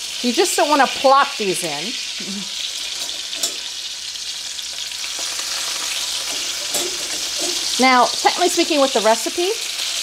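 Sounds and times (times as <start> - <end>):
food sizzling in a skillet: 0.0 - 10.0.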